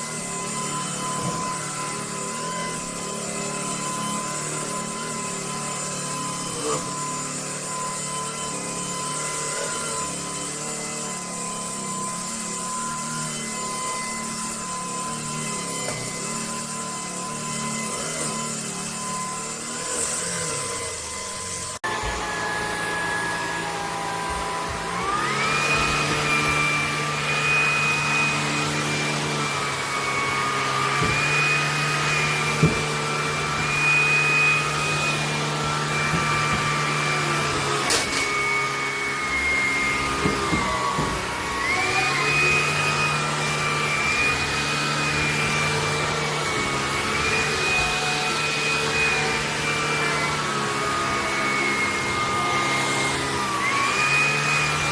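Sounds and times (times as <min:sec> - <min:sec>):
stick vacuum motor whine: 0:00.0 - 0:54.9.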